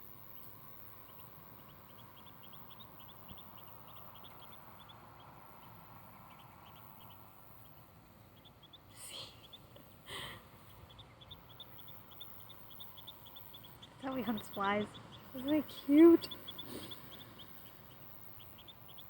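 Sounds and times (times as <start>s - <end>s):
soft background hiss: 0.0s - 19.0s
duckling peeping: 0.3s - 19.0s.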